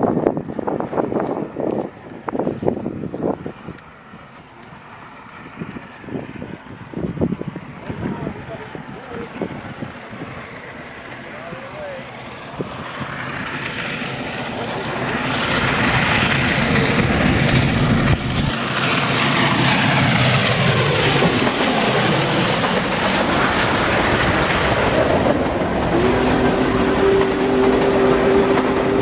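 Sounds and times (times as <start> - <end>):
steam locomotive passing at speed: 0.0 - 29.0.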